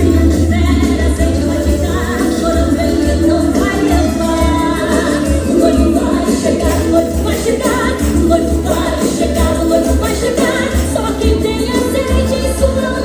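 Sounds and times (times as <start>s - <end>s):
frame drums beating: 0.0s - 12.4s
group singing in chorus: 0.0s - 13.0s.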